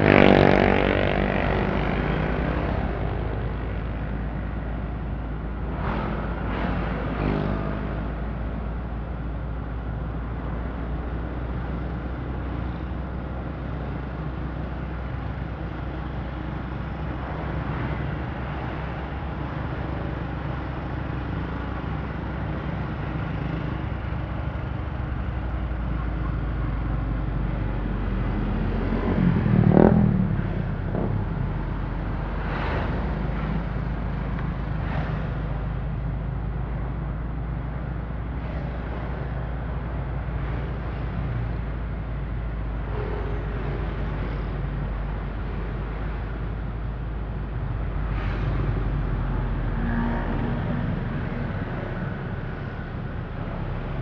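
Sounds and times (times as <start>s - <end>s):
engine and road rumble: 0.0s - 54.0s
motorbikes and cars passing: 0.0s - 54.0s.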